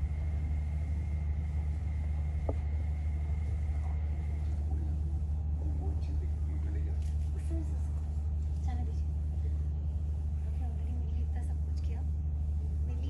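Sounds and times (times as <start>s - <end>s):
faint high whine: 0.0s - 13.0s
low rumble: 0.0s - 13.0s.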